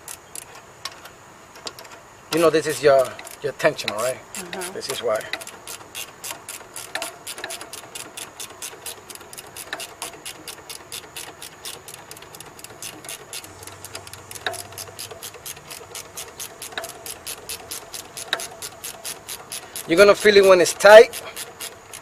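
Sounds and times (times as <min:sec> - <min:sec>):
ratchet wrench clicking: 0:00.0 - 0:22.0.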